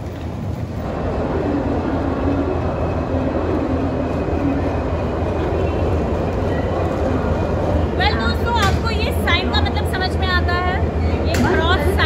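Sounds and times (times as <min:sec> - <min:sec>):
trains rumbling and humming: 0:00.0 - 0:12.0.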